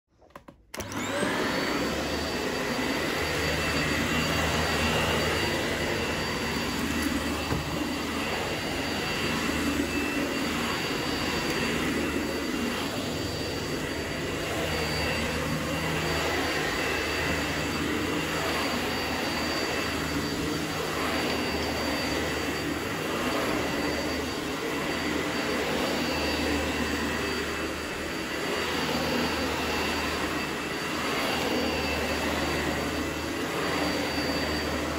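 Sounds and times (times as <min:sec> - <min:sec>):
vacuum cleaner whining: 0:00.2 - 0:34.9
vacuum head pushed over carpet: 0:00.2 - 0:34.9.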